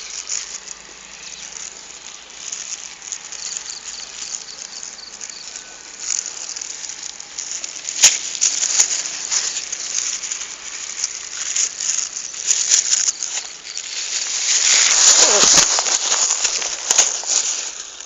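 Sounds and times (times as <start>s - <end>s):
bag rustling and crackling: 0.0s - 18.0s.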